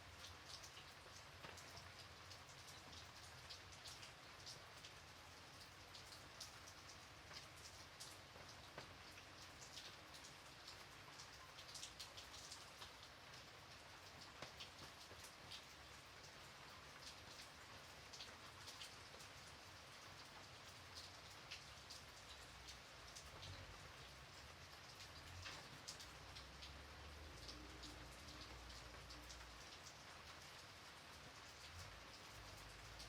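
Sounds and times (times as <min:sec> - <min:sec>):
light rain falling: 0:00.0 - 0:33.0
raindrops ticking on a surface: 0:00.0 - 0:33.0.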